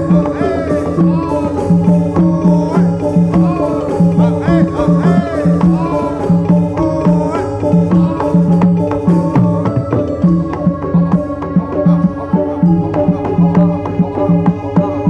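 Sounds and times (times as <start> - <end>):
drums and pitched percussion: 0.0 - 15.0
wavering melody with bending notes: 0.0 - 15.0.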